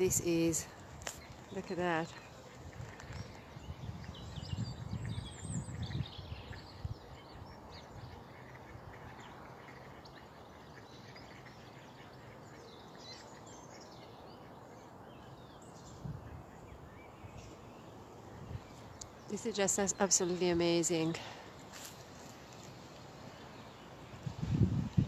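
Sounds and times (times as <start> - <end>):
faint outdoor hiss: 0.0 - 25.0.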